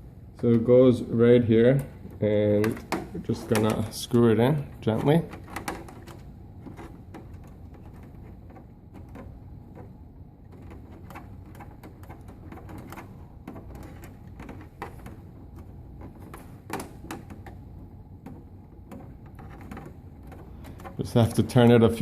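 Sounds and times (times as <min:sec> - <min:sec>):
coaxial connector clicking and rattling: 0:01.6 - 0:22.0.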